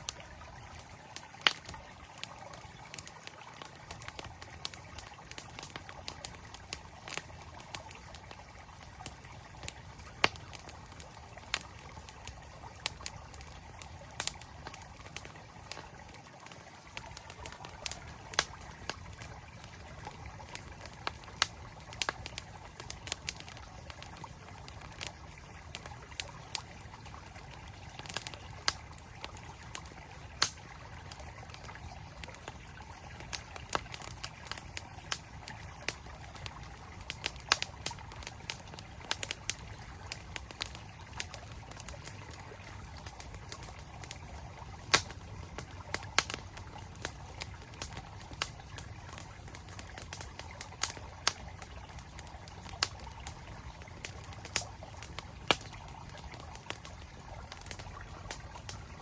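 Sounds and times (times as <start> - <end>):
campfire crackling and popping: 0.0 - 59.0
flowing mountain stream: 0.0 - 59.0.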